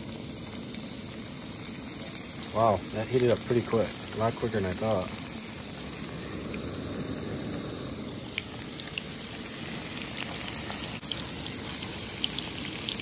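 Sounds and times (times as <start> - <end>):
fish sizzling in hot oil: 0.0 - 13.0
oil popping: 0.0 - 13.0.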